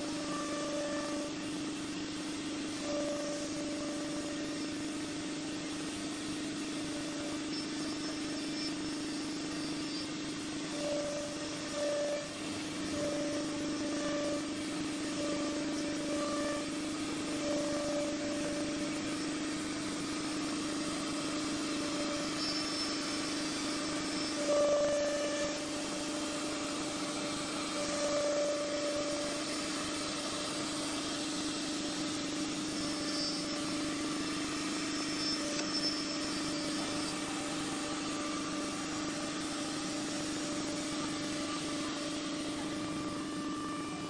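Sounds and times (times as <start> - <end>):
cnc router spindle hum: 0.0 - 44.0.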